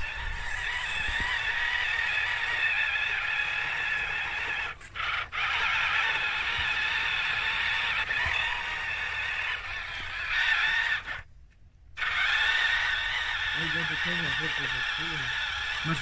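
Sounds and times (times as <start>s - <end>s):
electric motor whine: 0.0s - 11.3s, 12.0s - 16.0s.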